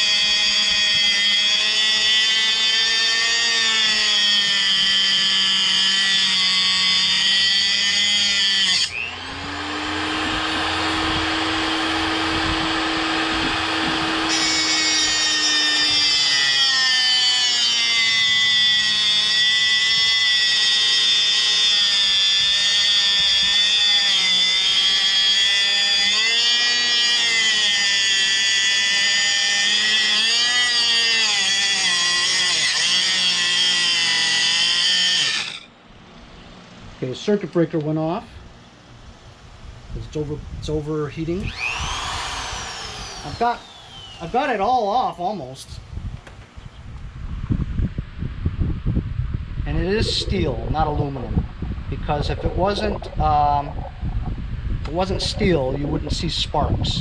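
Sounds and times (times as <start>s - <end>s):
angle grinder grinding metal: 0.0s - 35.7s, 41.2s - 45.3s, 49.7s - 57.0s.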